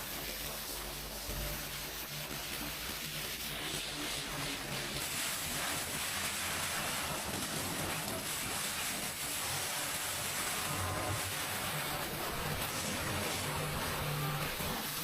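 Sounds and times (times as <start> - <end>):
pressure washer spraying metal: 0.0 - 15.0.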